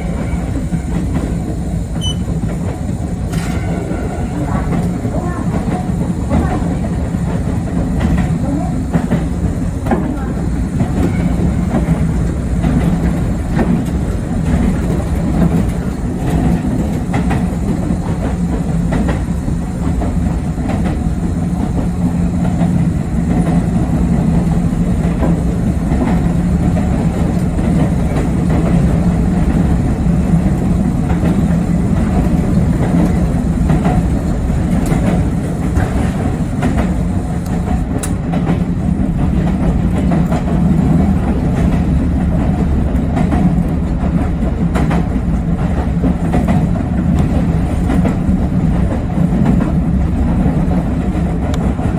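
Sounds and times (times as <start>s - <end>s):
electric train hum and rumble: 0.0s - 51.9s
wheels clicking over rail joints: 0.0s - 51.9s.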